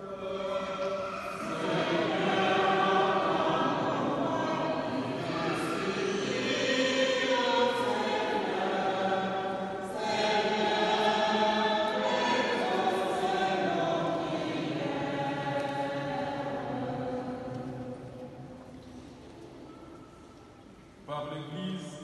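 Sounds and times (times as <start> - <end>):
choir singing held notes: 0.0 - 18.5.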